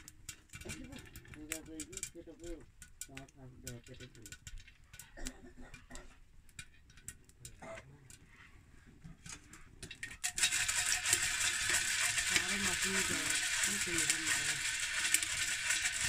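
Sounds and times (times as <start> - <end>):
maize kernels crackling: 0.0 - 8.3, 9.8 - 16.0
pot stirred hiss and rattle: 0.0 - 16.0.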